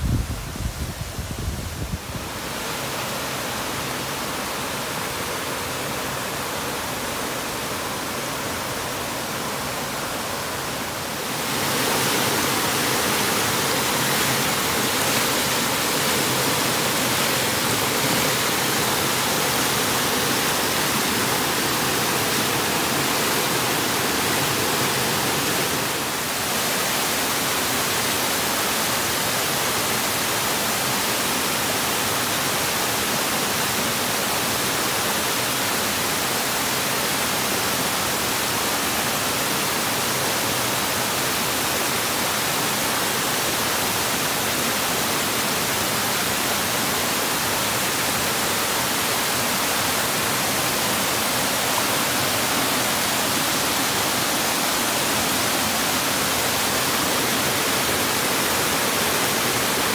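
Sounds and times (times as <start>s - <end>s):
rushing waterfall: 0.0s - 59.9s.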